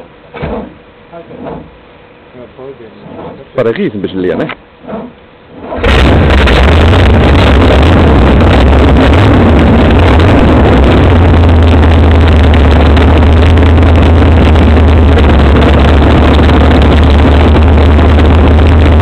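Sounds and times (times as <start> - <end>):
boat engines running: 0.0 - 19.0.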